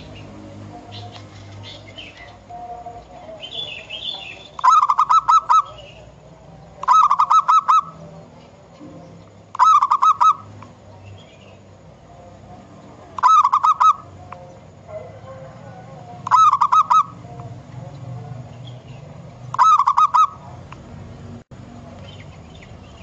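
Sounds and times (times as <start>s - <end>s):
dove cooing: 0.0s - 11.1s, 12.1s - 18.5s, 19.5s - 20.6s.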